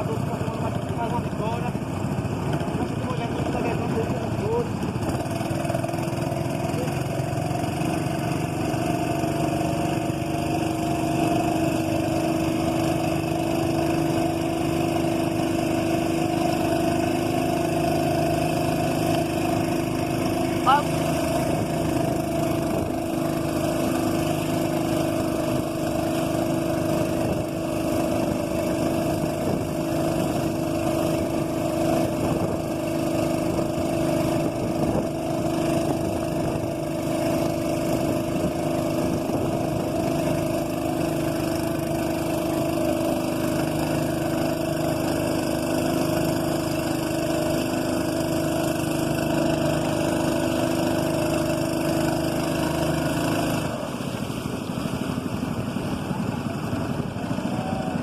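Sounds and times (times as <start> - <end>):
boat motor droning: 0.0 - 58.0.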